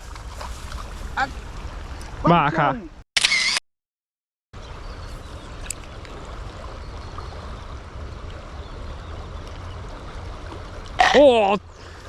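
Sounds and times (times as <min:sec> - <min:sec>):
water rushing: 0:00.0 - 0:02.8, 0:04.6 - 0:12.0.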